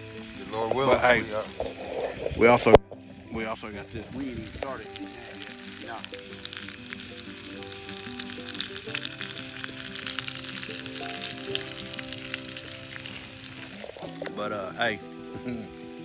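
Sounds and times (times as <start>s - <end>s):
background music: 0.0s - 16.0s
meat sizzling in a skillet: 0.0s - 16.0s.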